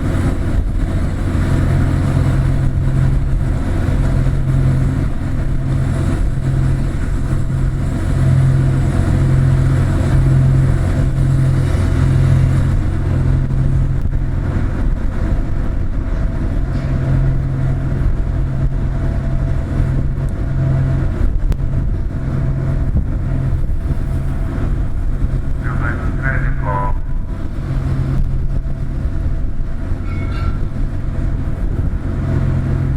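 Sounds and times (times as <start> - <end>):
ship diesel engines droning: 0.0 - 32.9.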